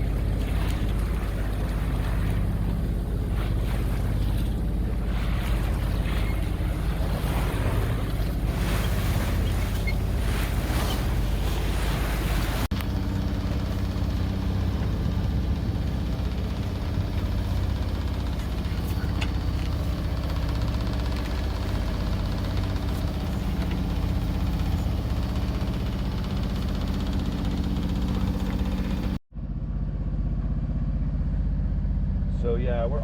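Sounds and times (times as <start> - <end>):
waves against hull: 0.0 - 29.2
diesel engine droning: 0.0 - 33.0
wind: 0.0 - 33.0.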